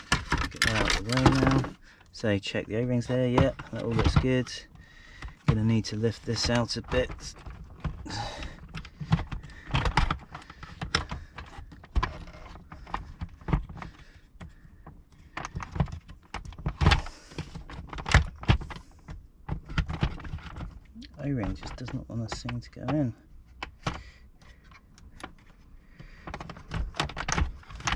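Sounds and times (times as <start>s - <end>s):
plastic clicks and knocks: 0.0s - 2.1s, 3.0s - 27.9s.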